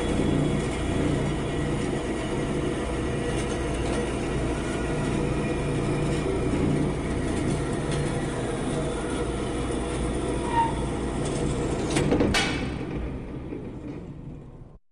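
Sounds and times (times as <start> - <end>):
band saw cutting metal: 0.0 - 12.9.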